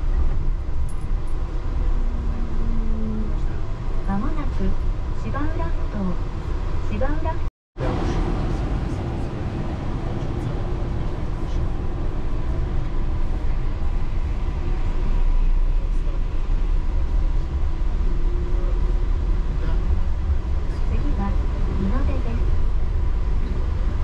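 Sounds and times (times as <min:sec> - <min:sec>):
train tyres rumbling: 0:00.0 - 0:24.0.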